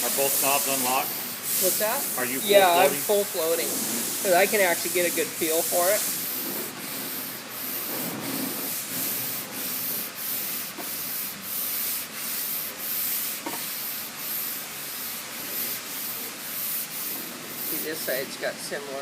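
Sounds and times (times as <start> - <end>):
sanding board strokes on car panel: 0.0 - 18.3.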